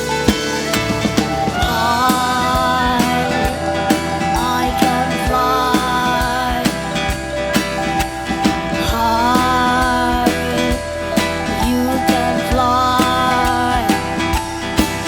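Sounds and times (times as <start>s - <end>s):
rock band playing: 0.0s - 15.0s
wavering melody line: 0.0s - 15.0s.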